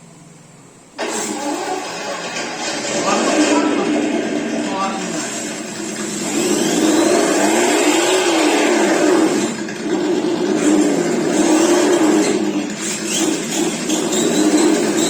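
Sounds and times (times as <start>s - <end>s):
simulated engine through small speaker: 1.0s - 15.0s.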